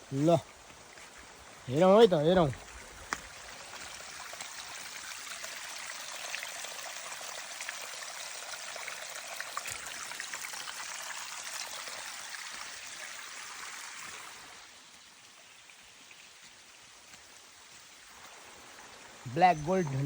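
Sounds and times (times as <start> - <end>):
water trickling: 0.0 - 20.0
small drips and splashes: 0.4 - 20.0.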